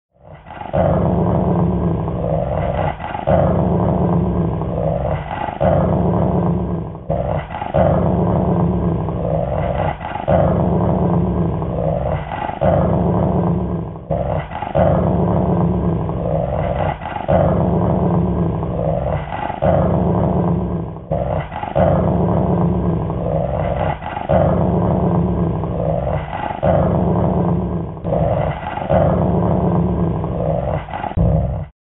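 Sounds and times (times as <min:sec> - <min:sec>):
deep dog growling: 0:00.1 - 0:31.8.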